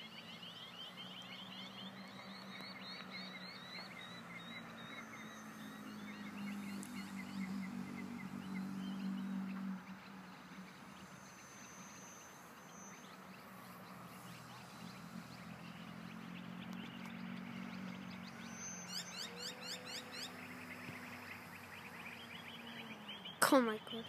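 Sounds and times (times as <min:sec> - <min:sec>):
small birds chirping: 0:00.0 - 0:24.0
model plane propeller drone: 0:02.8 - 0:23.1.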